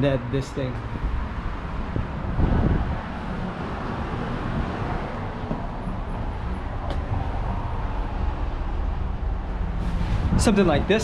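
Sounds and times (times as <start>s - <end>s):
road traffic passing cars: 0.0s - 11.0s.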